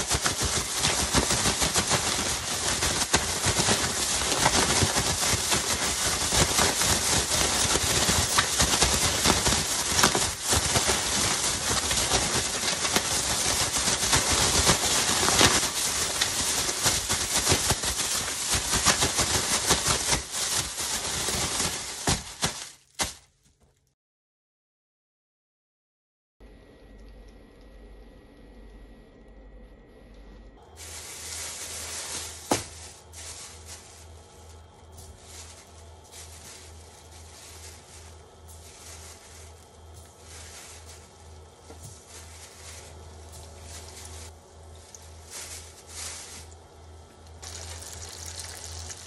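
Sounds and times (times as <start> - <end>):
food tumbling in bag: 0.0 - 23.2, 30.6 - 49.0
plastic bag crinkling: 0.0 - 23.4, 30.6 - 49.0.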